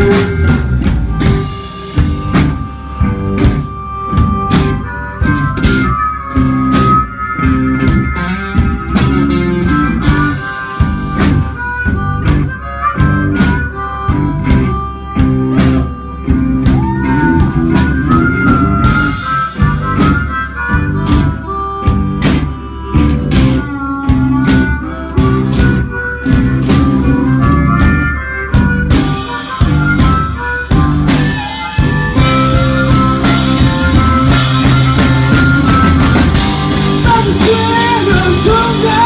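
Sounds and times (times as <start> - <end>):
amplified harmonica: 0.0 - 39.0
bass guitar: 0.0 - 39.0
electric guitar: 0.0 - 39.0
steady drum beat: 0.0 - 39.0.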